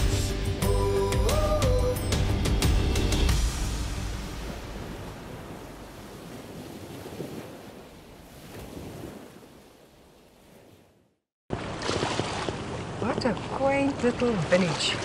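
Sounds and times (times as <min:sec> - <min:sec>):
waves at sea: 0:00.0 - 0:15.0.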